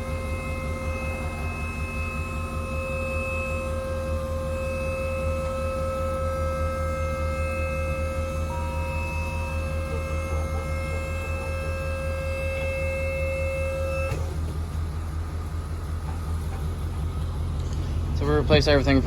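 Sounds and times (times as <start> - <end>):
high whine: 0.0 - 19.0
truck engine idling: 0.0 - 19.0.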